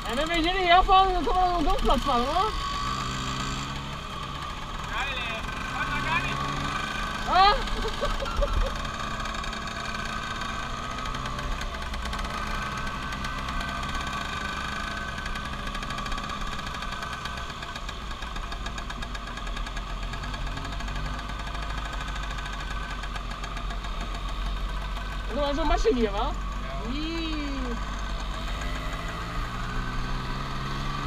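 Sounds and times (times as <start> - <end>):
scooter engine running: 0.0 - 31.0.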